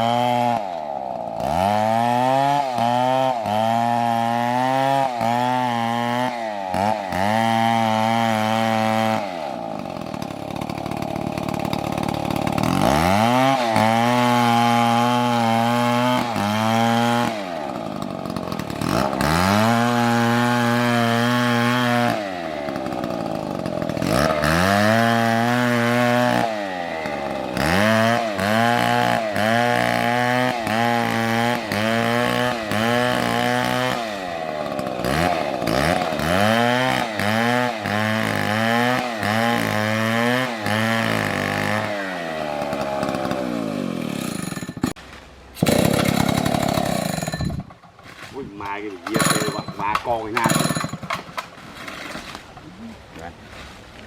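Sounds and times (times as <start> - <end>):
chainsaw running at high revs: 0.0 - 45.0, 45.6 - 47.7, 48.5 - 52.1.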